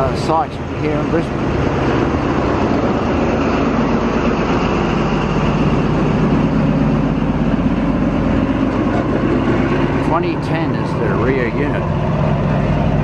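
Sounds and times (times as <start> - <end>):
carriages clattering on rails: 0.0 - 13.0
train engine humming: 0.0 - 13.0.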